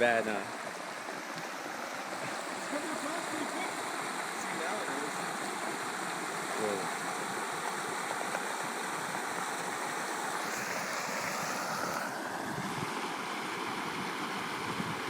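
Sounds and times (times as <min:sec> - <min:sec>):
muddy flood water rushing: 0:00.0 - 0:15.0.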